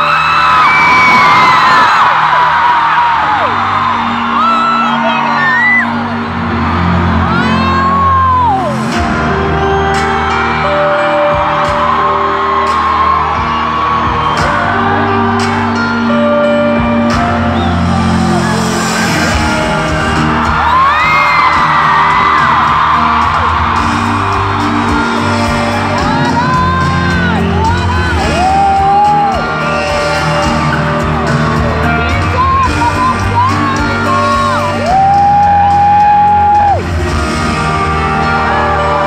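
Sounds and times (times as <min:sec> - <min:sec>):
audience whooping: 0:00.0 - 0:16.3, 0:17.1 - 0:39.0
live concert music: 0:00.0 - 0:39.0.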